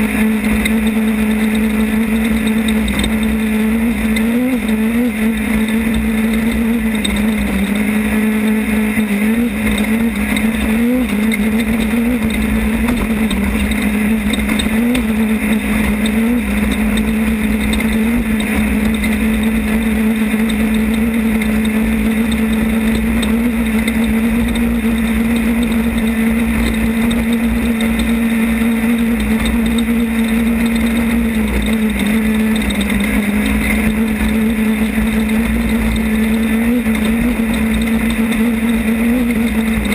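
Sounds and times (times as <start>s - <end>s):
race car engine at high revs: 0.0s - 39.9s
rumble and rattle: 0.0s - 39.9s.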